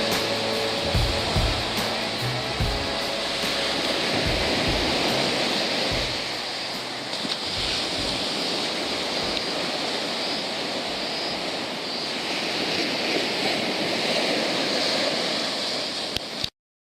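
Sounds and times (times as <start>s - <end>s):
waves breaking on shore: 0.0s - 16.5s.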